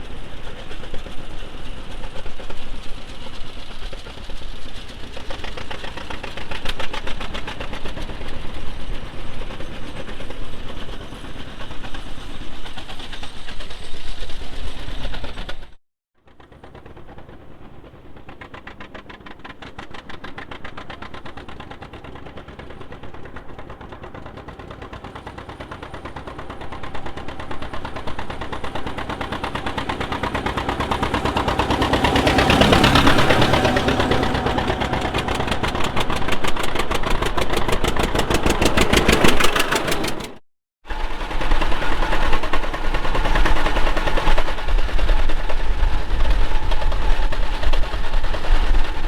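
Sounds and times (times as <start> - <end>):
tractor engine running: 0.0 - 11.3, 16.4 - 49.0.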